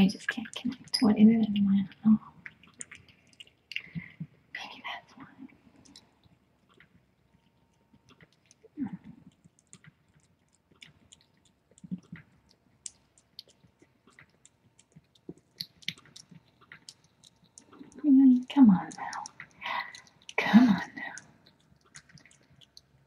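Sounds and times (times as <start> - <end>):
cat chewing and licking: 0.1 - 23.0.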